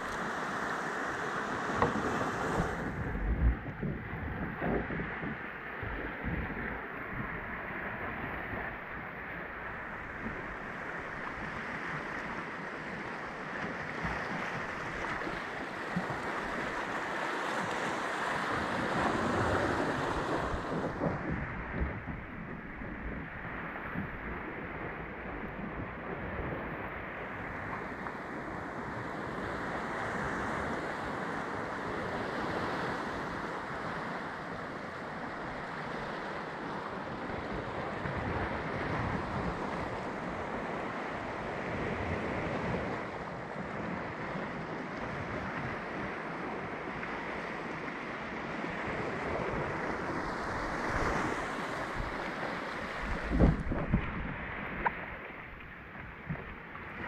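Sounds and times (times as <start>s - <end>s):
water lapping around kayak: 0.0s - 57.0s
wind on microphone: 0.0s - 57.0s.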